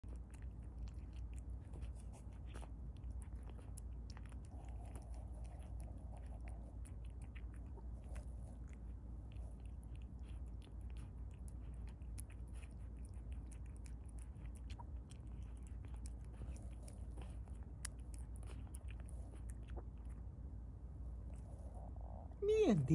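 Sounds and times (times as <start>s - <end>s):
cat chewing and licking: 0.0s - 22.9s
low hum: 0.0s - 22.9s.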